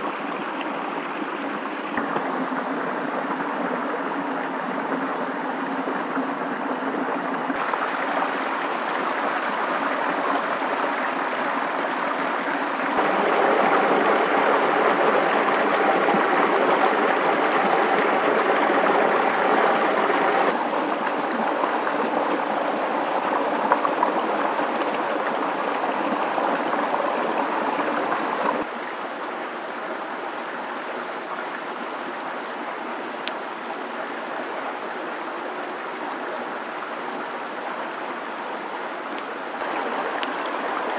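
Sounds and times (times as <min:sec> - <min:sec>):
rushing outdoor ambience: 0:00.0 - 0:28.7, 0:34.8 - 0:40.9.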